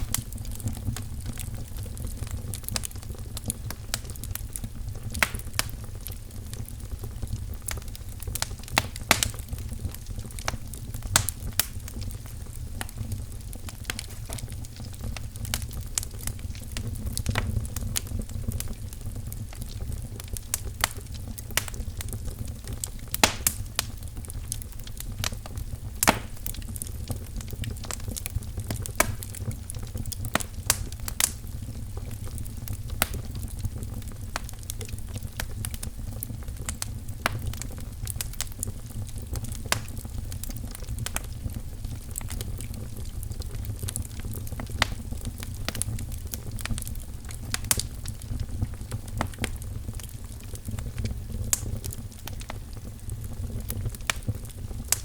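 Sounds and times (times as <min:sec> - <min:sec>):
fire popping and snapping: 0:00.0 - 0:55.0
low rumble of flames: 0:00.0 - 0:55.0.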